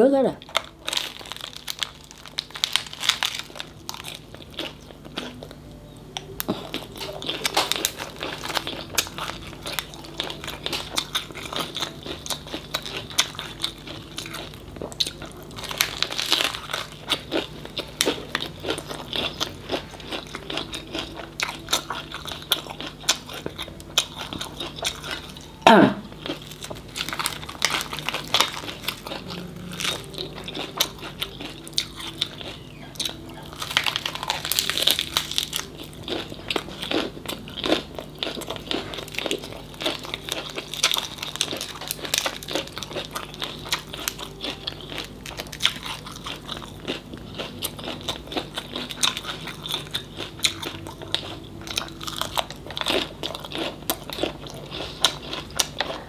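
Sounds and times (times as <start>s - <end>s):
crisp crunching while chewing: 0.4s - 56.0s.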